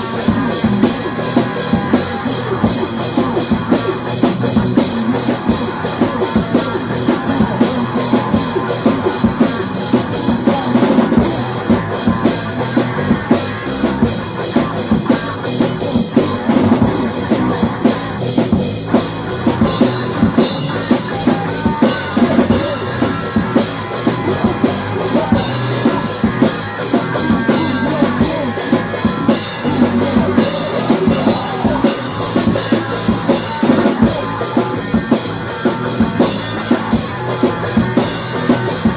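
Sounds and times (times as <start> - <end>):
drum kit beat: 0.0 - 38.9
instrumental rock music: 0.0 - 38.9.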